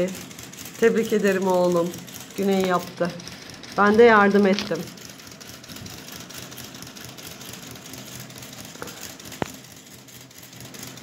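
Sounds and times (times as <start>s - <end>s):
small electric motor whirring: 0.0s - 11.0s.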